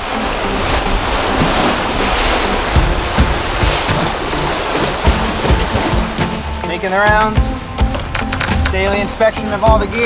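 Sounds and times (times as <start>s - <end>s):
sea water rushing past a boat: 0.0s - 10.0s.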